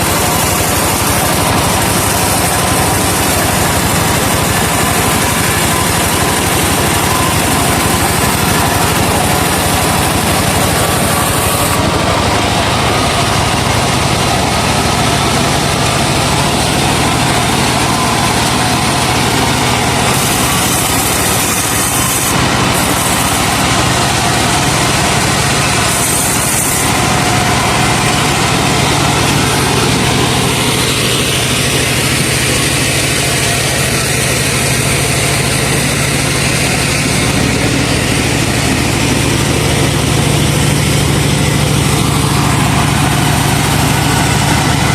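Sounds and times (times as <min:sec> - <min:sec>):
engine drone driving saw: 0:00.0 - 0:44.9.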